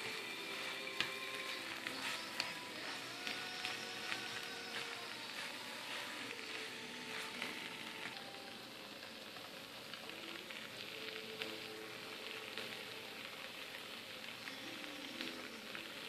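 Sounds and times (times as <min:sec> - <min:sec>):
wooden spatula tossing food: 0:00.0 - 0:13.7
noodles sizzling in a hot pan: 0:00.0 - 0:16.0.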